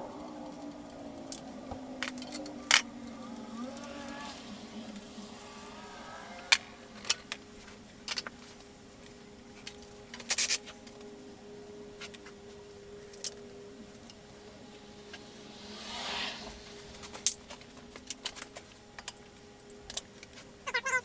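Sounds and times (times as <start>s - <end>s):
faint steady hum: 0.0s - 20.6s.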